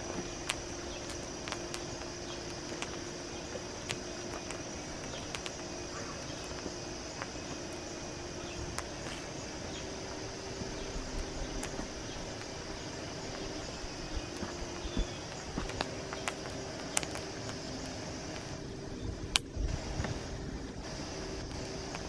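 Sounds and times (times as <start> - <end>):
popcorn cracking and popping: 0.0 - 20.1, 20.8 - 22.0
high insect chirring: 0.0 - 22.0.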